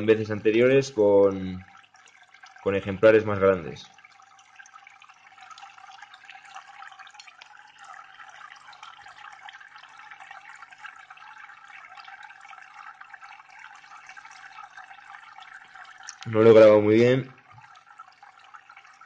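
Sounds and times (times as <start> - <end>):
aquarium water trickling: 0.0 - 19.0
small drip-like ticks: 0.0 - 19.0.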